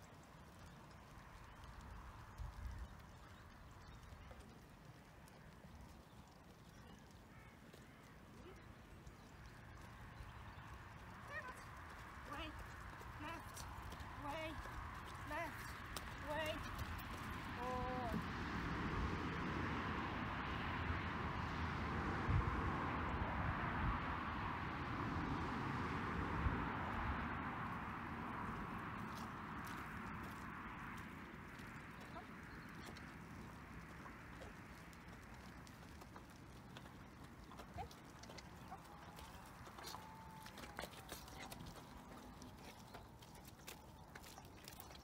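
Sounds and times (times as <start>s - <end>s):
mule hooves on muddy ground: 0.0s - 23.2s, 24.9s - 45.0s.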